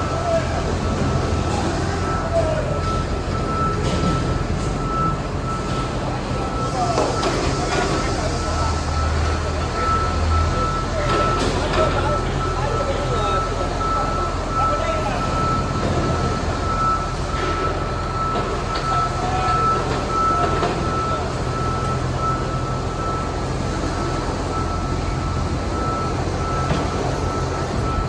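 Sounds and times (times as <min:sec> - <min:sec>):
backup alarm beeping: 0:00.0 - 0:28.0
diesel engine running: 0:00.0 - 0:28.0.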